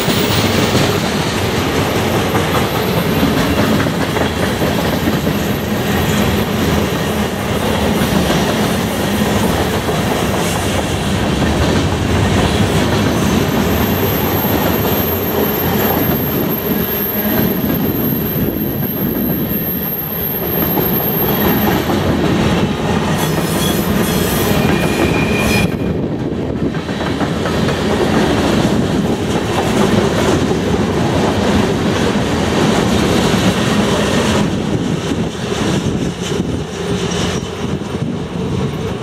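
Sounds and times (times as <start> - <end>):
steel wheels clattering over rail joints: 0.0 - 39.0.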